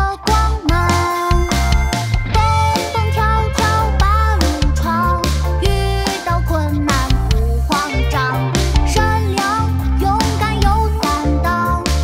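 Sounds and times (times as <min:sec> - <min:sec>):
bass line: 0:00.0 - 0:12.0
drum beats: 0:00.0 - 0:12.0
person singing: 0:00.0 - 0:12.0.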